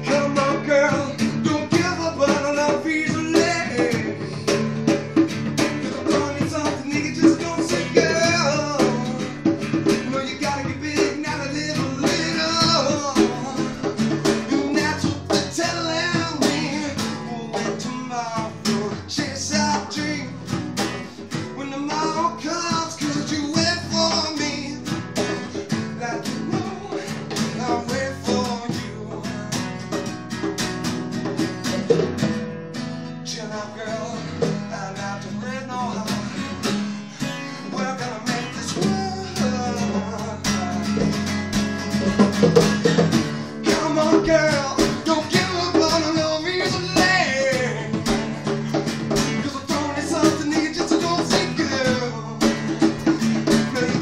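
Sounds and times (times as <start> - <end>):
man singing: 0.0 - 30.3, 33.1 - 54.0
hand drums: 0.0 - 33.0, 35.7 - 54.0
strummed acoustic guitar: 0.0 - 54.0.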